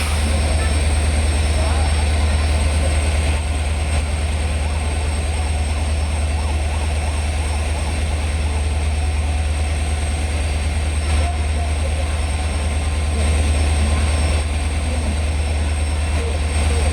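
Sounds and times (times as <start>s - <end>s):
diesel locomotive humming: 0.0s - 16.9s.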